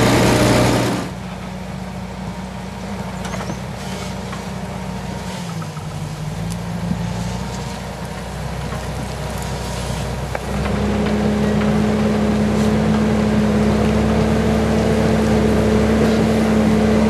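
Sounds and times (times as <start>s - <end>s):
large engine humming: 0.0s - 17.0s.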